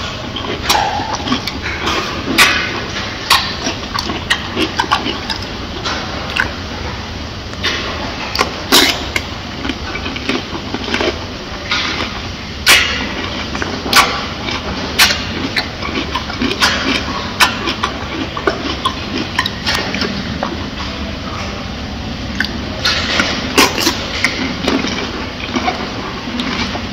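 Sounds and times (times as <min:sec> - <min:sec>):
gorilla chewing cucumber: 0:00.0 - 0:26.9.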